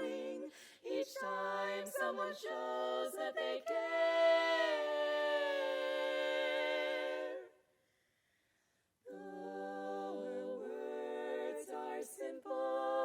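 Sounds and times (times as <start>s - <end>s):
women's quartet singing a cappella: 0.0s - 7.7s, 9.0s - 13.0s.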